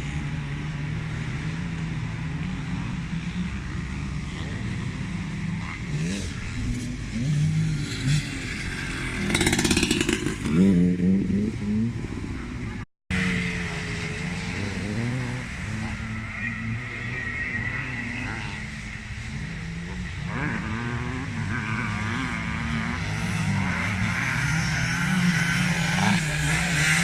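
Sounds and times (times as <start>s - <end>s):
motocross motorcycles revving: 0.0s - 27.0s.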